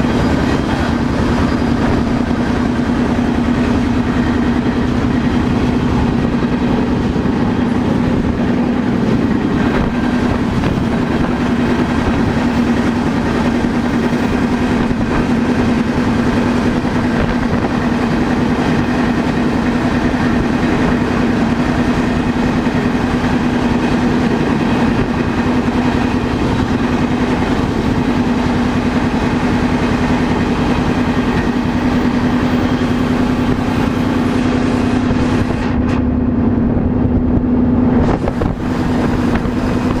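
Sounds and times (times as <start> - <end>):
constant low hum: 0.0 - 40.0
freight train rumbling: 0.0 - 40.0.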